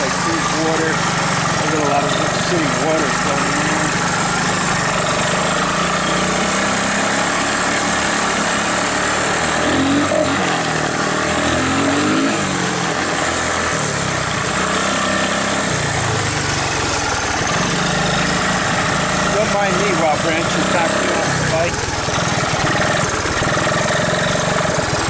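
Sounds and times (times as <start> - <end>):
three-wheeler engine running: 0.0 - 25.0.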